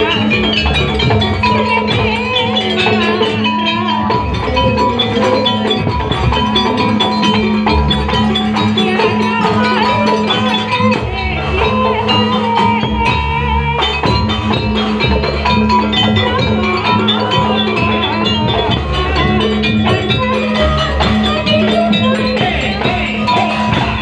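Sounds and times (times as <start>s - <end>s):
metallophones striking: 0.0s - 13.1s, 13.8s - 24.0s
drums: 0.0s - 24.0s
wavering melody: 0.0s - 24.0s.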